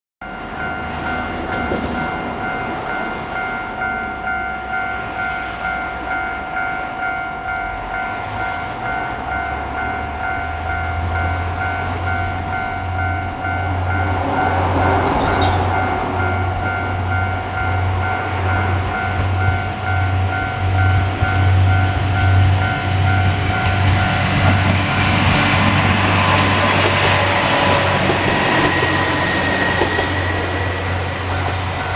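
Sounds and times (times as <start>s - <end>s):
diesel railcar engine and wheels: 0.2s - 31.9s
level-crossing alarm ringing: 0.2s - 31.9s.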